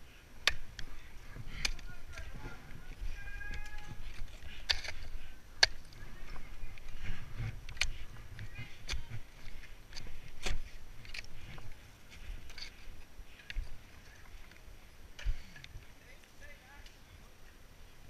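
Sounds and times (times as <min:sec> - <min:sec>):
gear shuffling: 0:00.0 - 0:15.9
snow crunching: 0:00.0 - 0:17.2.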